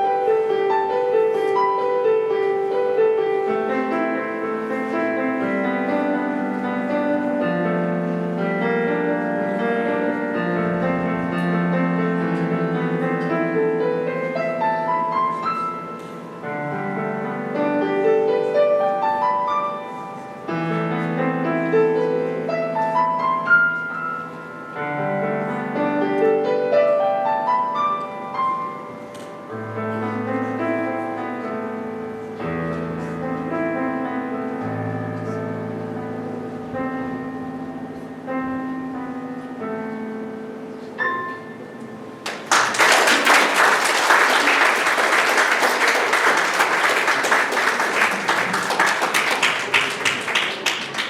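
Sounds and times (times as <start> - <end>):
solo piano playing: 0.0 - 42.5.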